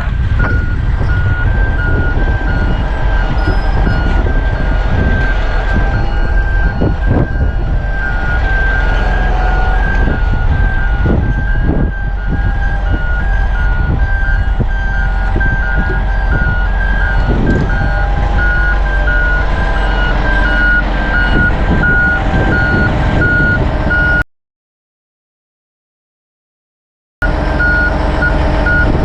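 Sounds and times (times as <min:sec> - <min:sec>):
diesel engine drone: 0:00.0 - 0:24.2, 0:27.2 - 0:29.0
two-pitch reversing alarm beeps: 0:00.4 - 0:24.2, 0:27.6 - 0:29.0.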